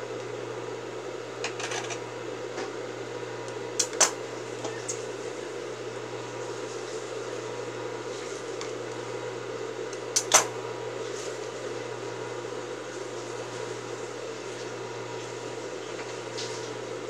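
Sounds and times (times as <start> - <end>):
electric motor hum: 0.0 - 17.0.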